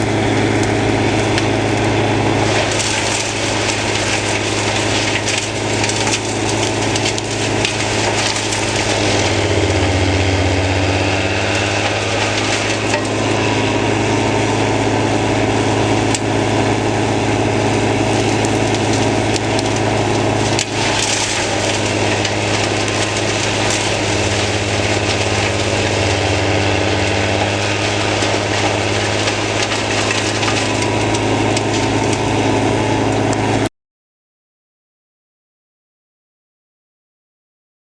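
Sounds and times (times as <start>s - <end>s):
branches crackling and crunching: 0.0s - 33.7s
wood chipper engine drone: 0.0s - 33.7s.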